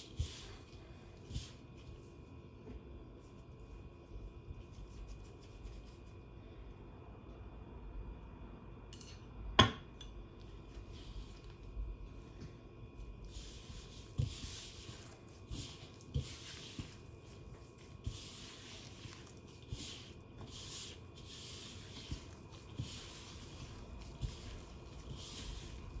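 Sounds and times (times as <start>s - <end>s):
hands kneading damp powder: 0.0s - 6.3s, 10.4s - 26.0s.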